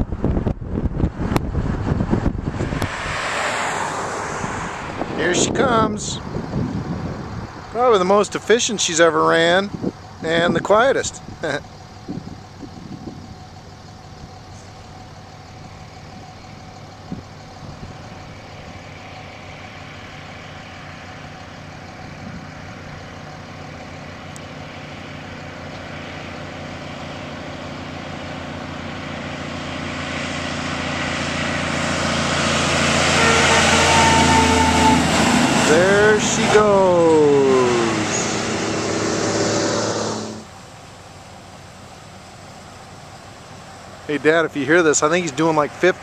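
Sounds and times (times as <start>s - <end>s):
truck engine hum: 0.0s - 46.0s.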